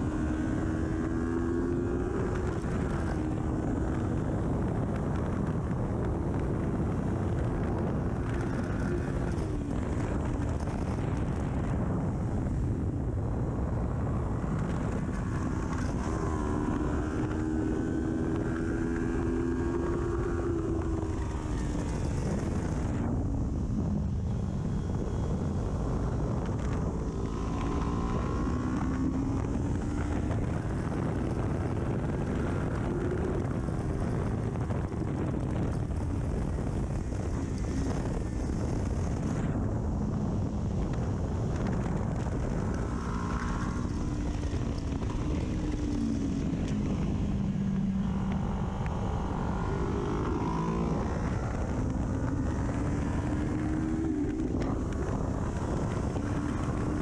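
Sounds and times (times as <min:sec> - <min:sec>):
motorcycle engine revving: 0:00.0 - 0:57.0
wind rush on microphone: 0:00.0 - 0:57.0.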